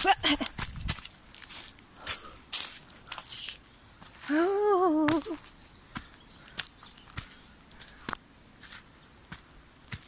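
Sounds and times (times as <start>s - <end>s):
footsteps crunching dry leaves: 0.0s - 4.4s, 5.1s - 10.0s.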